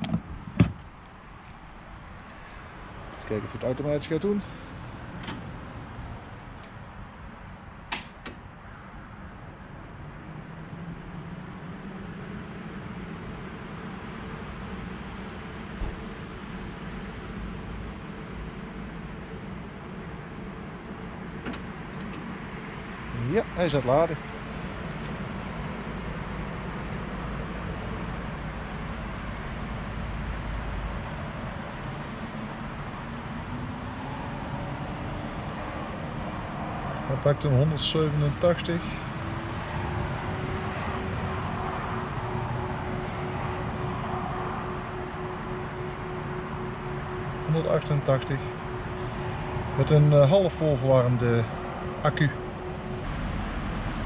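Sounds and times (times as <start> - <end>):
outdoor traffic noise: 0.0 - 54.0.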